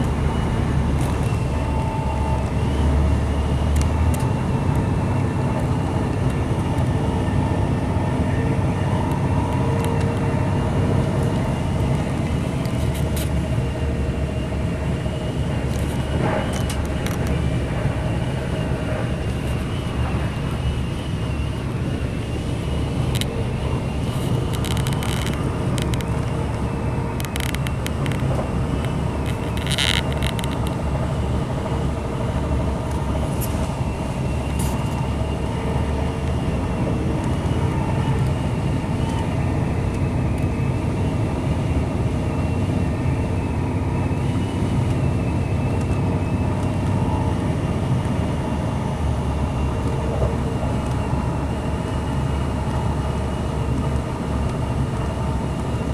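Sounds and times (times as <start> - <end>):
diesel engine rumble: 0.0 - 55.9
steady high whine: 0.0 - 55.9
train wheels on rails: 0.0 - 55.9.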